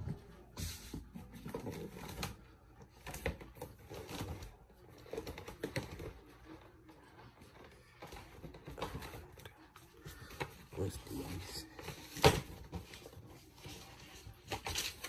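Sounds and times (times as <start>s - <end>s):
objects being handled and rummaged: 0.0s - 15.0s.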